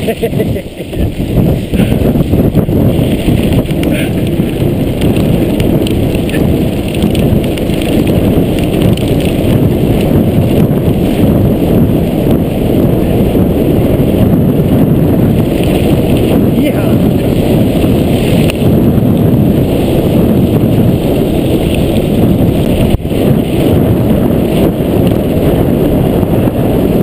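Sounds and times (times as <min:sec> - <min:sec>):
bike rattling: 0:00.0 - 0:27.0
wind buffeting microphone: 0:00.0 - 0:27.0.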